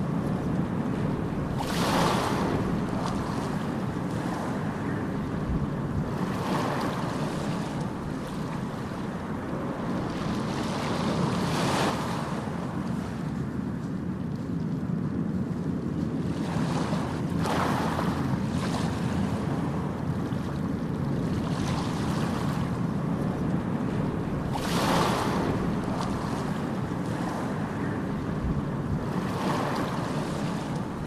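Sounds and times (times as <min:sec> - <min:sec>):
ocean surf rushing: 0:00.0 - 0:13.2, 0:16.3 - 0:31.0
waves breaking: 0:00.0 - 0:31.0.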